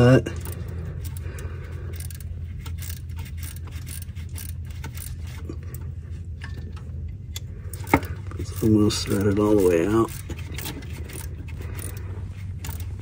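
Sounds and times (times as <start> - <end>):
steady low hum: 0.0 - 13.0
ratchet clicking: 0.3 - 5.8, 7.3 - 13.0.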